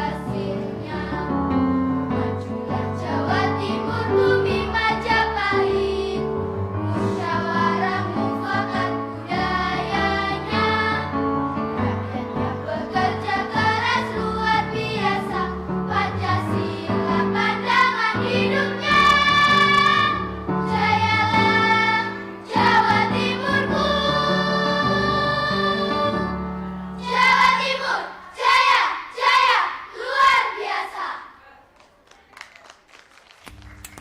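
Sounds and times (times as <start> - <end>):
choir singing: 0.0 - 31.4.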